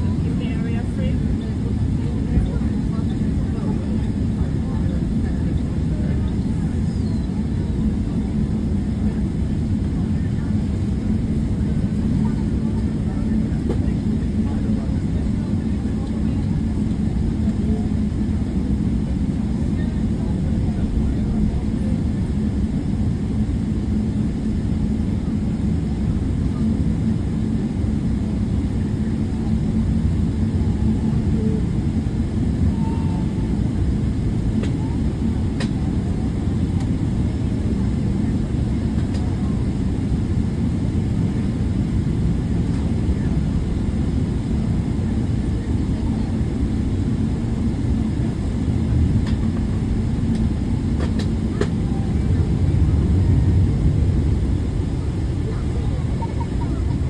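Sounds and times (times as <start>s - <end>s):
airliner cabin rumble: 0.0s - 57.0s
constant hum: 0.0s - 57.0s.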